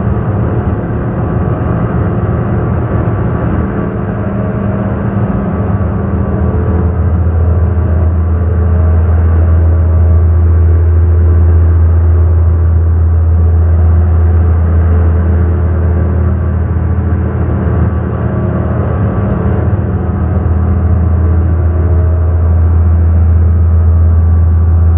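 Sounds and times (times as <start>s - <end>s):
haze of noise: 0.0s - 23.9s
low synthesizer drone: 0.0s - 24.9s.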